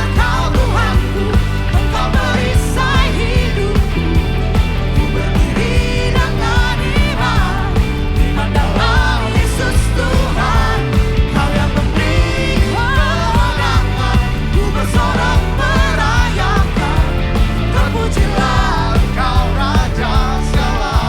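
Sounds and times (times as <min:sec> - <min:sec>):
drums and bass beat: 0:00.0 - 0:21.0.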